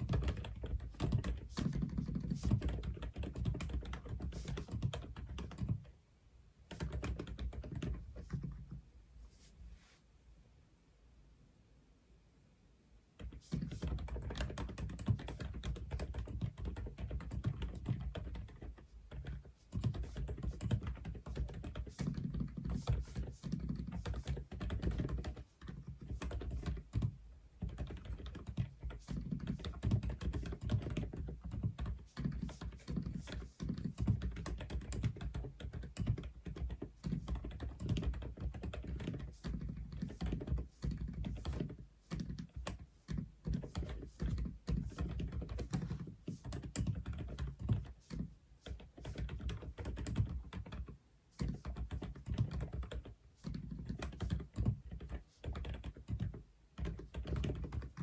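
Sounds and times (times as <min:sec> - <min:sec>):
fast mechanical keyboard typing: 0:00.0 - 0:05.9, 0:06.7 - 0:08.7, 0:13.2 - 0:58.0.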